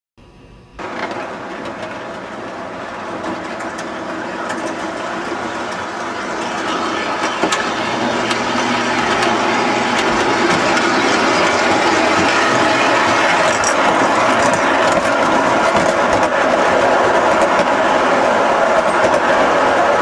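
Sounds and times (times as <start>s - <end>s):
model train rumble and hum: 0.2s - 20.0s
wheels clicking over rail joints: 0.8s - 17.8s.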